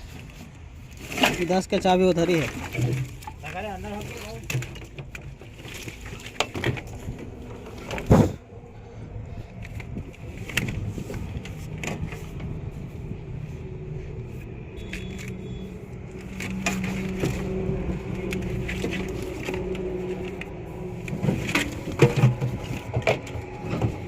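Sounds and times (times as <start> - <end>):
engine humming: 4.3 - 24.0.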